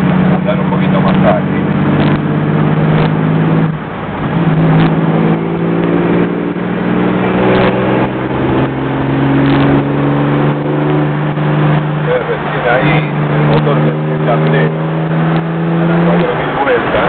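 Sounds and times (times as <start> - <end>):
car engine running under load: 0.0 - 17.0
wind and road noise: 0.0 - 17.0.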